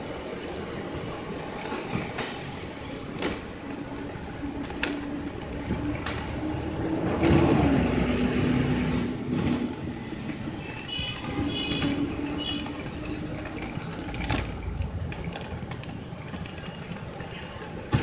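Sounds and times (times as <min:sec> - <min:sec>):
city traffic engine hum: 0:00.0 - 0:18.0.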